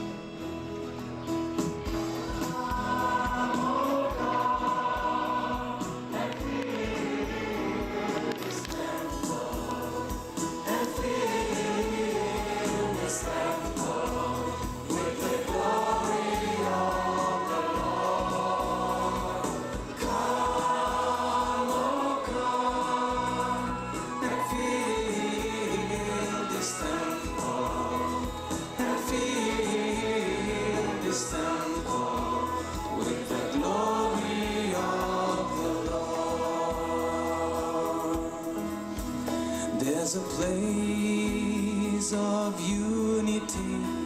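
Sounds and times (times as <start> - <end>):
instrumental accompaniment: 0.0 - 44.0
choir singing: 2.0 - 39.2.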